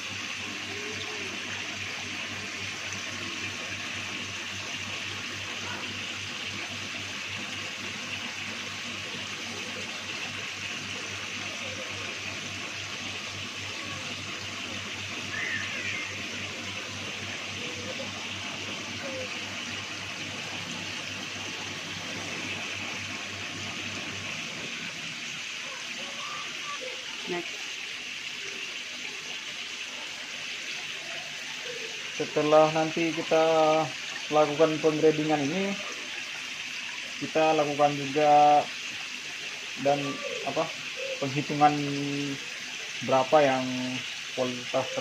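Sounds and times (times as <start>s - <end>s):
water pouring into tanks: 0.0s - 45.0s.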